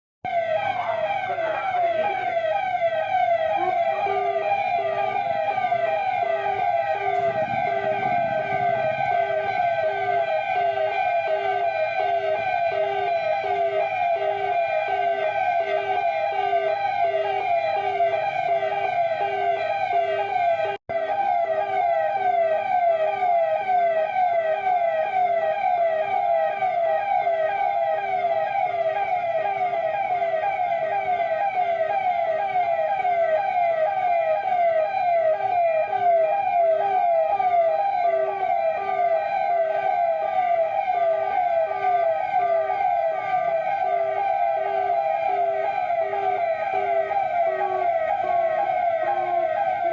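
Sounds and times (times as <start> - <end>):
electronic siren sweeping: 0.3 - 49.9.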